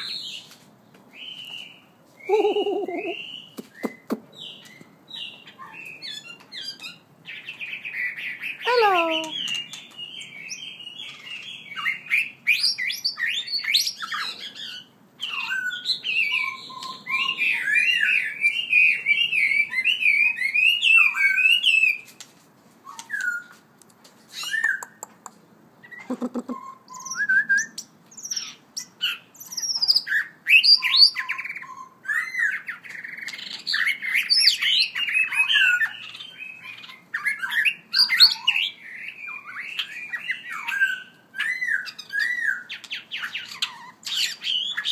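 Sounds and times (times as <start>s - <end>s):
songbird warbling: 2.2s - 22.0s, 25.8s - 44.9s.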